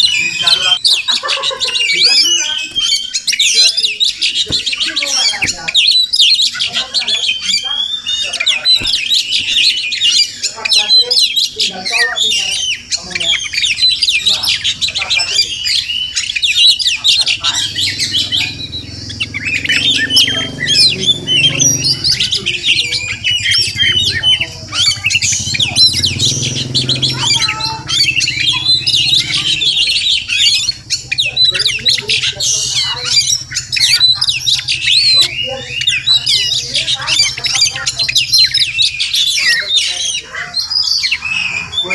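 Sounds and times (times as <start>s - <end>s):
bird singing chirps and whistles: 0.0s - 41.9s.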